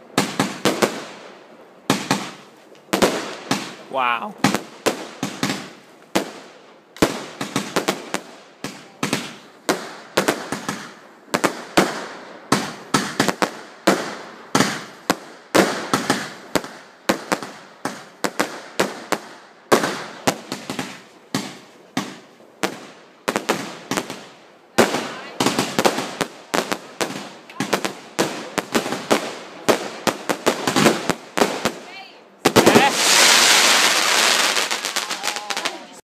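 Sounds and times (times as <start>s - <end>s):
fireworks bursting with sharp bangs: 0.0s - 36.0s.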